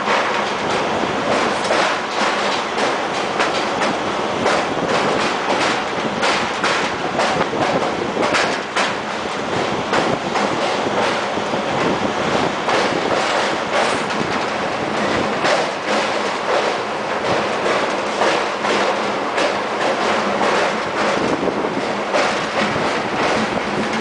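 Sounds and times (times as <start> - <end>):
train running noise: 0.0 - 24.0
train wheels clacking on track: 0.0 - 24.0.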